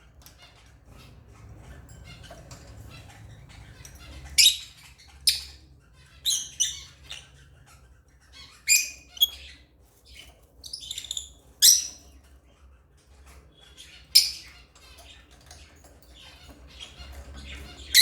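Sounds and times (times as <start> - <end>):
lovebirds chirping: 0.2 - 12.8, 13.5 - 18.0.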